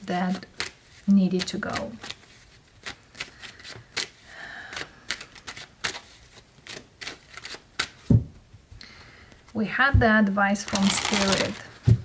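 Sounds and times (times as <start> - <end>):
cards being shuffled: 0.2 - 8.2, 10.2 - 12.0.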